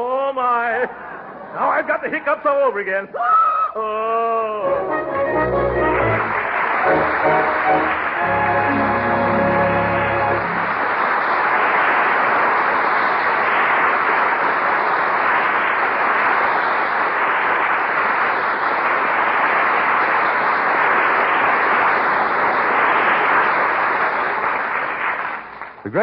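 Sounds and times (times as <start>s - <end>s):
studio audience applauding: 4.6s - 26.0s.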